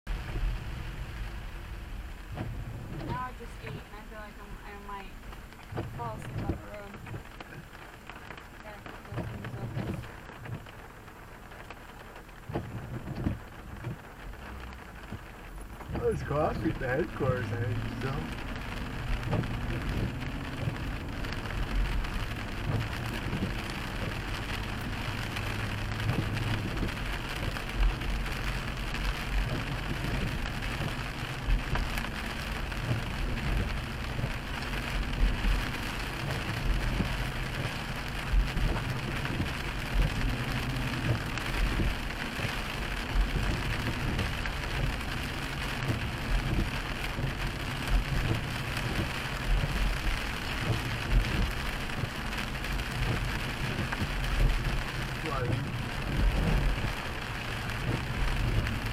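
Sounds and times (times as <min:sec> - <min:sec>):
car engine and tyres rumbling: 0:00.0 - 0:58.9
rain on car windshield: 0:00.1 - 0:58.9.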